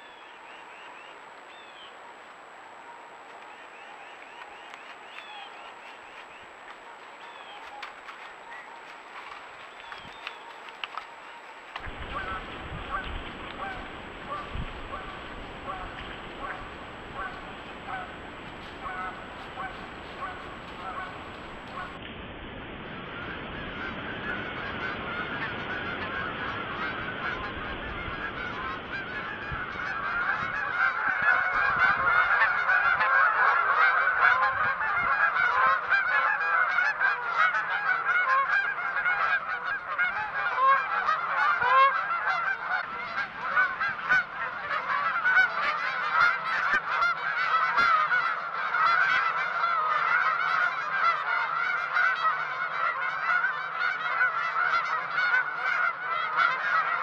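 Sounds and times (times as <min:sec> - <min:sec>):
geese honking: 0:00.0 - 0:22.0, 0:23.1 - 0:57.0.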